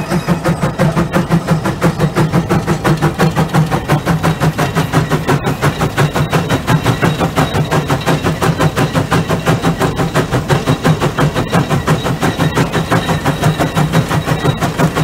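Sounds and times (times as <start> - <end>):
steam engine exhaust chuffing: 0.0 - 15.0.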